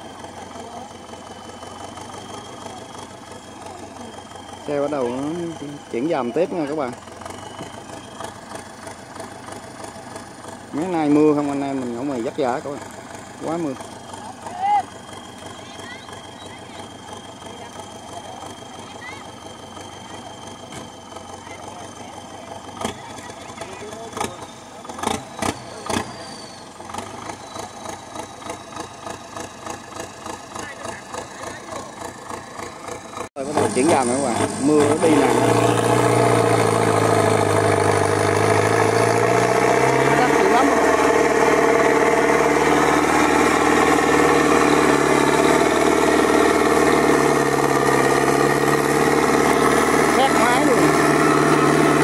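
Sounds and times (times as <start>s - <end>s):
tractor diesel engine idling: 0.0s - 52.0s.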